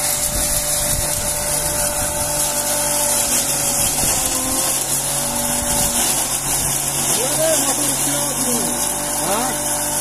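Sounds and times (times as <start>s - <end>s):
motor hum: 0.0s - 10.0s
straw shredding hiss: 0.0s - 10.0s.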